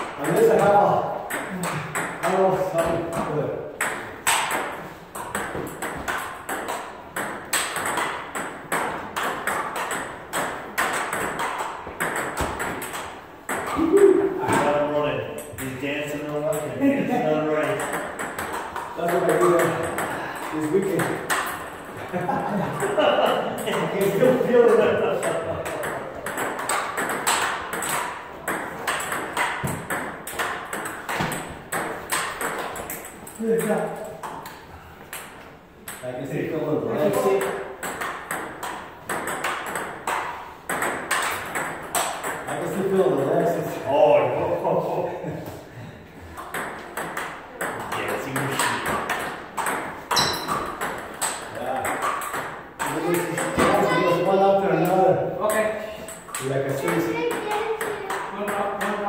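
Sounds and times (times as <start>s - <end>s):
table tennis balls clicking: 0.0s - 36.1s, 36.9s - 43.3s, 46.3s - 59.0s.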